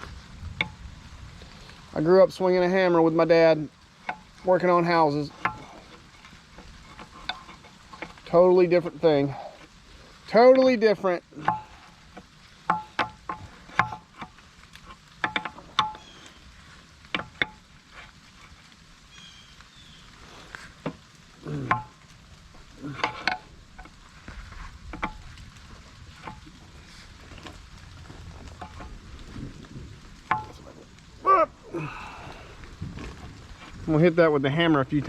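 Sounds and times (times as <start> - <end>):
steady rain patter: 0.0 - 35.0.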